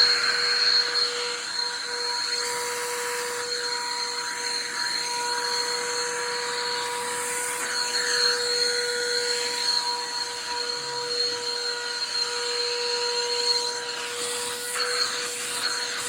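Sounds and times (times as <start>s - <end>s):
shop vacuum running: 0.0s - 16.0s.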